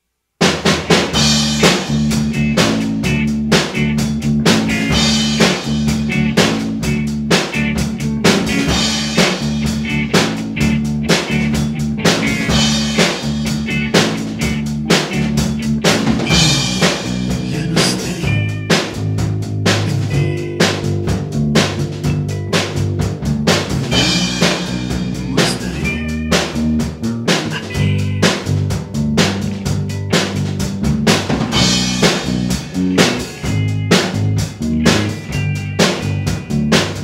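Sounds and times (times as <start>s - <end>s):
bass line: 0.4s - 37.0s
drum kit beat: 0.4s - 37.0s
rock band song: 0.4s - 37.0s.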